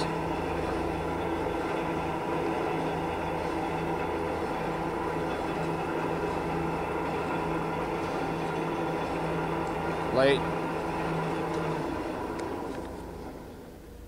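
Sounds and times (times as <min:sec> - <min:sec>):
bandsaw running: 0:00.0 - 0:13.4.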